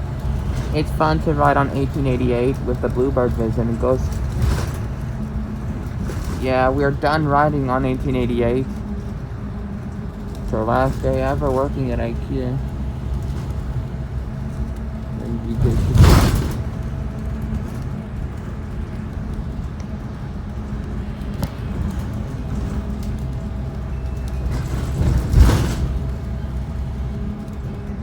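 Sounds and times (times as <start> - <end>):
bus engine drone: 0.0 - 28.0
road noise: 0.0 - 28.0.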